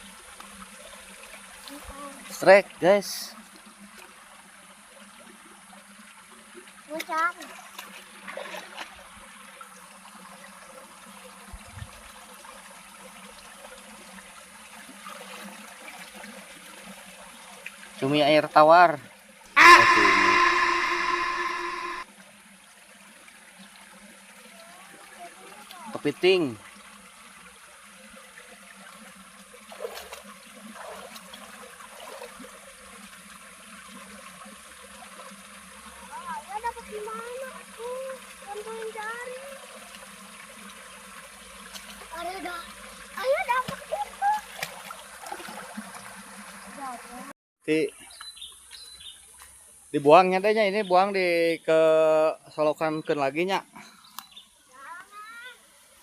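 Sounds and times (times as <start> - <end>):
water trickling in a ditch: 0.0 - 19.5, 22.1 - 56.0.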